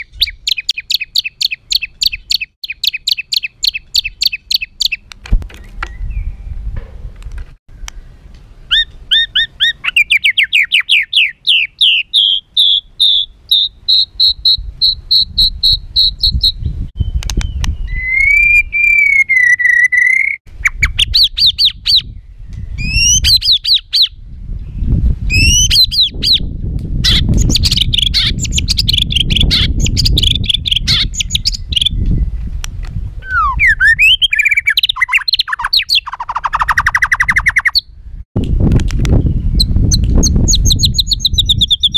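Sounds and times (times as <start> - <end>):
bird singing harsh song: 0.0 - 6.7, 7.7 - 32.5, 33.2 - 38.0, 39.0 - 41.9.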